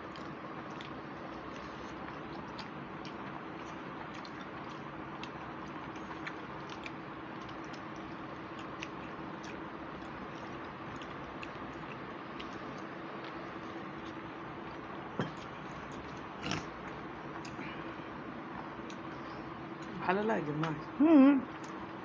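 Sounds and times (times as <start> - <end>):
people chewing: 0.0 - 18.1.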